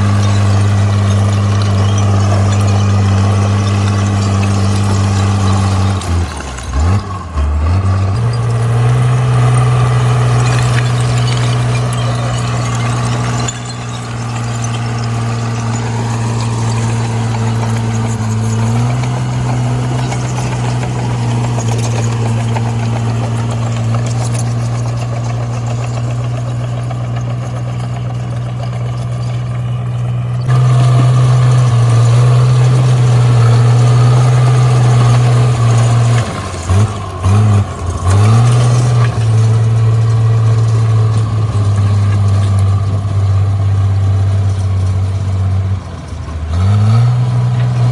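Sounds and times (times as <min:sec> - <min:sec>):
bulldozer diesel engine: 0:00.0 - 0:47.9.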